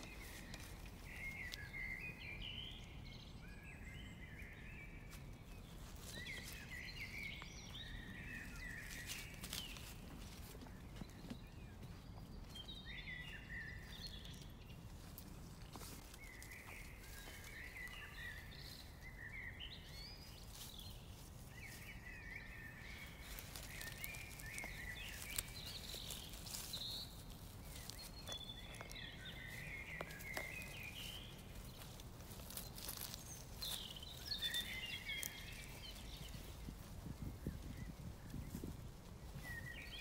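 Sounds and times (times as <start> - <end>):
dry leaves crackling and rustling: 0.0 - 2.4, 5.1 - 11.0, 12.8 - 40.0
small birds twittering: 0.0 - 40.0.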